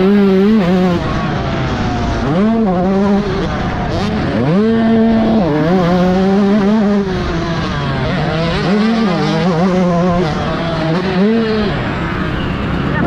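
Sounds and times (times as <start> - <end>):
motocross engine revving hard: 0.0 - 13.0.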